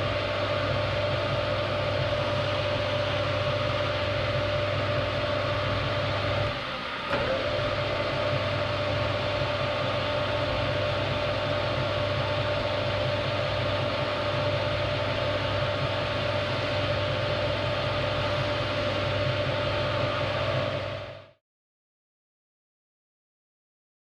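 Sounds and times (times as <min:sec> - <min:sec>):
machine tool motor droning: 0:00.0 - 0:21.3.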